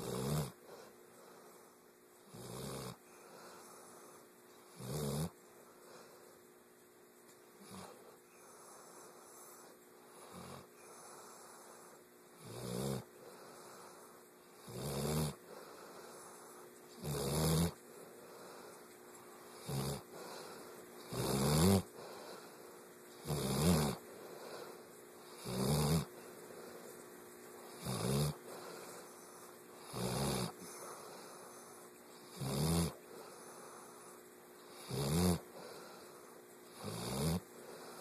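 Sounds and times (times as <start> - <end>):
person snoring: 0.0 - 1.7, 2.3 - 5.3, 7.6 - 18.8, 19.5 - 26.7, 27.7 - 38.0.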